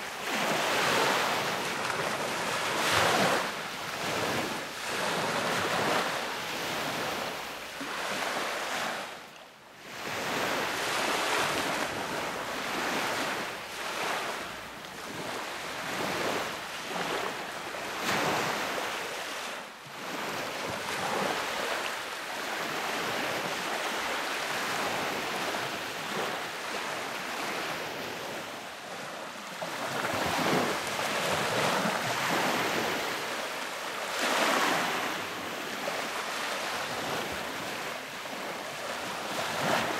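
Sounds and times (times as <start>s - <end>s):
sea waves washing onto beach: 0.0s - 39.9s
wind: 0.0s - 39.9s.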